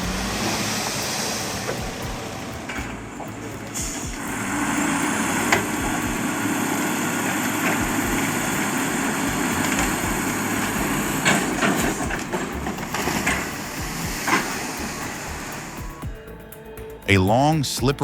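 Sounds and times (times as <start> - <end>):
heavy vehicle engine running: 0.0 - 18.0.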